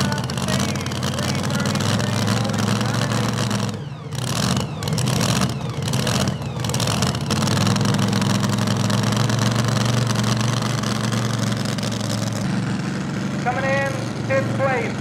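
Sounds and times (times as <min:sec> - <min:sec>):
truck engine idling lumpily: 0:00.0 - 0:15.0.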